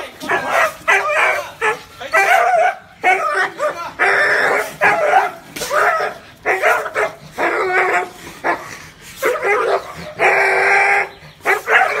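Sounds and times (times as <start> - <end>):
dog barking: 0.2 - 8.6, 9.2 - 10.6, 11.4 - 12.0.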